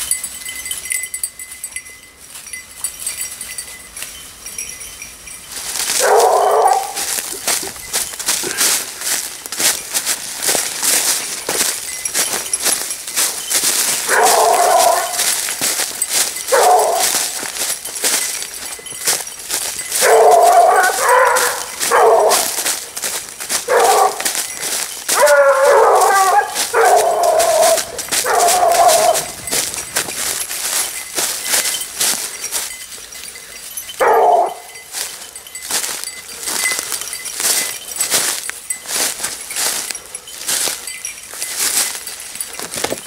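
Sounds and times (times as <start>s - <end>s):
twigs and undergrowth crackling: 2.3s - 43.0s
hounds baying and yelping: 5.7s - 41.0s.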